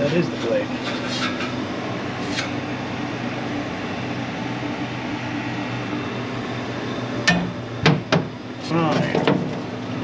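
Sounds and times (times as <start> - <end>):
dehumidifier unit humming: 0.0 - 10.0.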